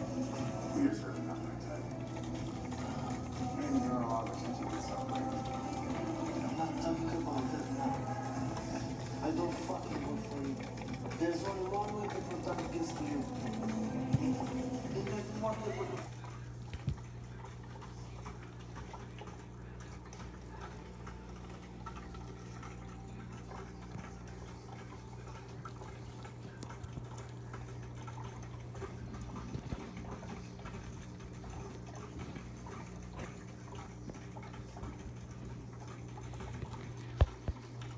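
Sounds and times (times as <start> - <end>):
aquarium pump humming: 0.0 - 37.9
water bubbling and trickling: 0.0 - 37.9.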